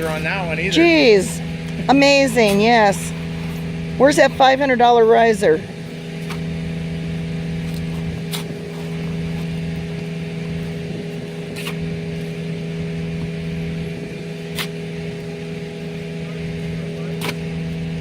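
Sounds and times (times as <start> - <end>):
heavy machinery engine humming: 0.0 - 18.0.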